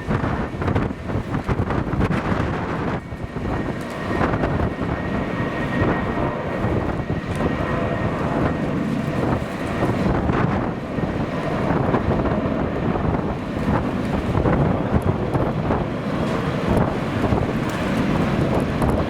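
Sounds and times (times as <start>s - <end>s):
jet engines running: 0.0s - 19.0s
wind buffeting microphone: 0.0s - 19.0s.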